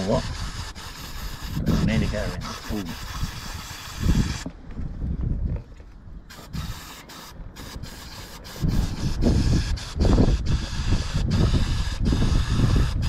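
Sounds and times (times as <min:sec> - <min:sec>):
aerosol can spraying: 0:00.0 - 0:04.5, 0:06.3 - 0:13.0.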